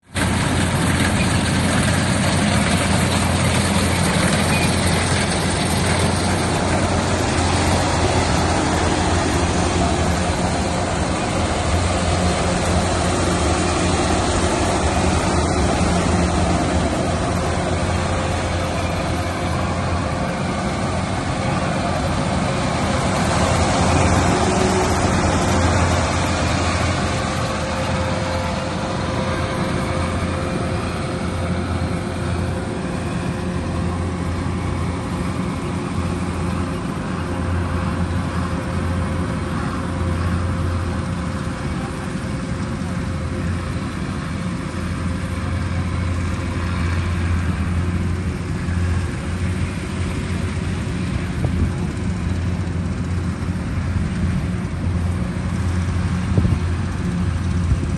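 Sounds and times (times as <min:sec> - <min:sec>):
combine harvester engine drone: 0:00.0 - 0:57.9
steady mechanical whine: 0:00.1 - 0:57.9.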